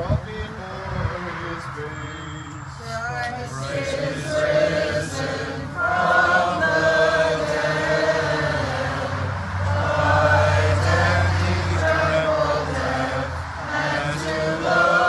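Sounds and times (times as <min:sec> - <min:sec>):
group singing a cappella chant: 0:02.8 - 0:15.0.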